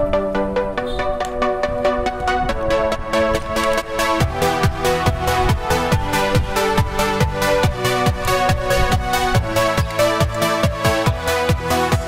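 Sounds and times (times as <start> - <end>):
electronic music with fast beat: 0.0 - 12.0.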